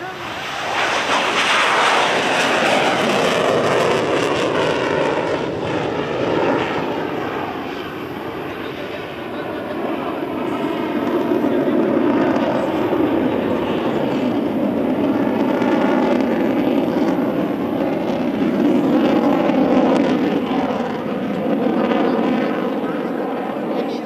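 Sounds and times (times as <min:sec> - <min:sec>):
fighter jet engine noise: 0:00.0 - 0:24.0.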